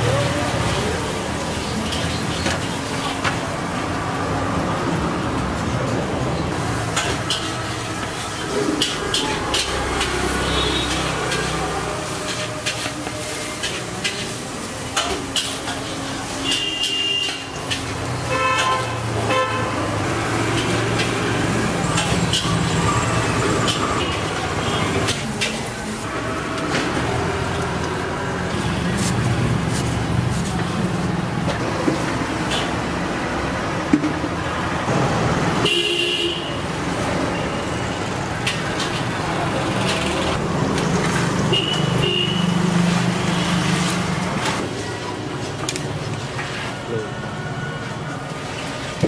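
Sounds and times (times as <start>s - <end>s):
low rumble of street traffic: 0.0s - 49.0s.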